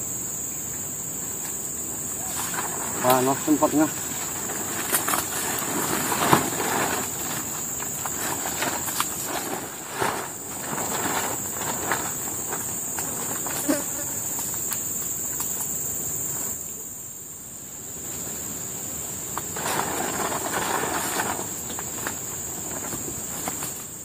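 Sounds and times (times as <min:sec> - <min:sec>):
insects droning: 0:00.0 - 0:24.0
rustling: 0:01.3 - 0:16.6, 0:19.2 - 0:24.0.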